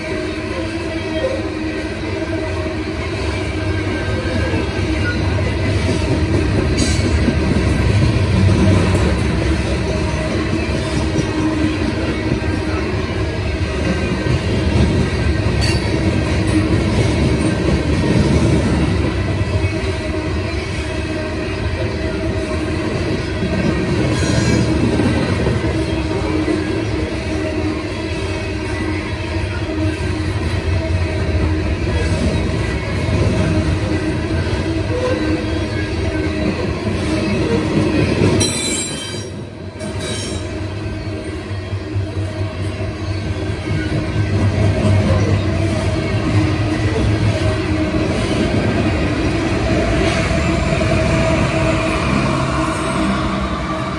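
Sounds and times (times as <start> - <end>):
freight train wheels rumbling on rails: 0.0 - 53.9.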